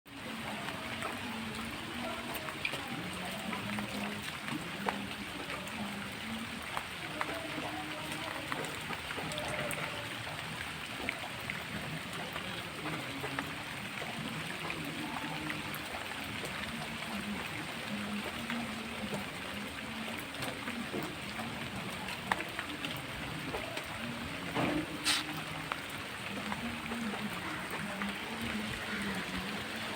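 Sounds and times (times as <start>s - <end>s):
faint indistinct voices: 0.1s - 29.9s
rain pattering: 0.1s - 29.9s.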